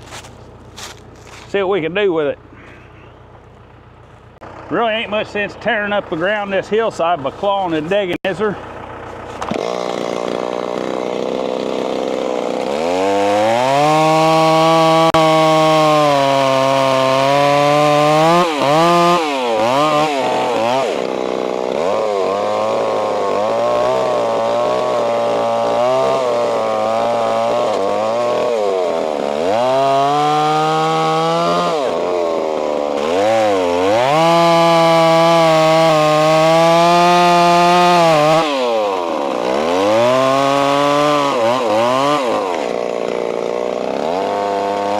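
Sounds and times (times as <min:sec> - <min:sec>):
chainsaw cutting log: 0:00.0 - 0:01.7, 0:02.4 - 0:44.9.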